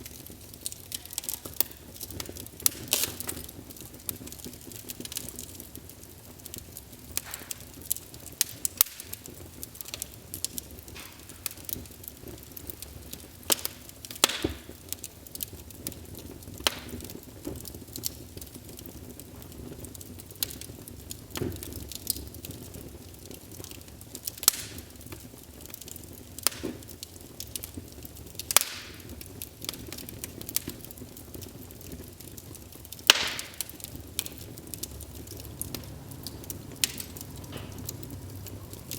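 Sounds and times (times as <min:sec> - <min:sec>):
low hiss of burning: 0:00.0 - 0:38.9
wood fire crackling and popping: 0:00.0 - 0:38.9.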